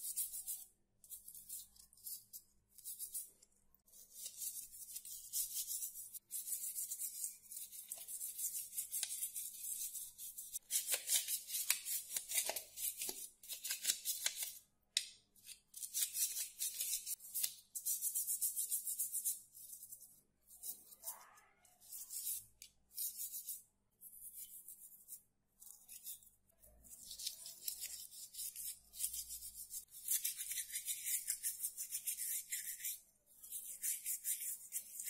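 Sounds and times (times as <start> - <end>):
toothbrush scrubbing plastic: 0.0 - 14.6, 15.4 - 21.1, 21.7 - 35.0.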